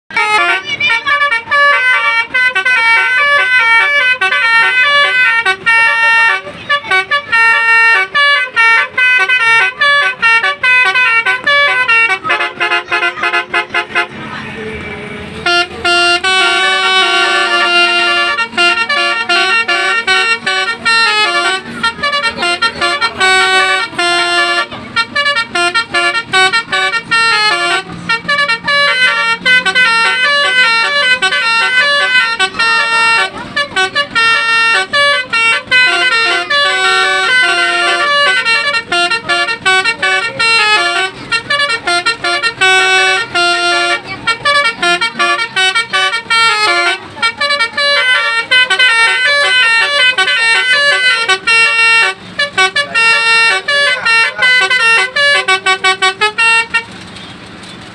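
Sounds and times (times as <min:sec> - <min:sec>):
musical bus horn melody: 0:00.1 - 0:57.4.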